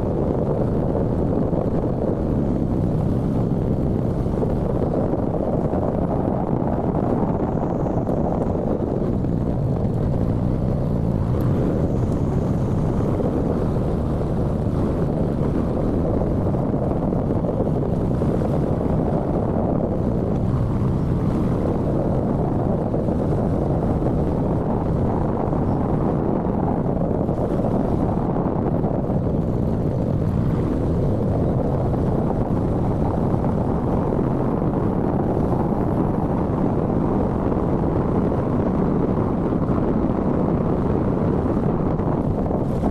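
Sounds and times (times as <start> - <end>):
motorcycle road noise: 0.0 - 42.9
wind rushing on microphone: 0.0 - 42.9.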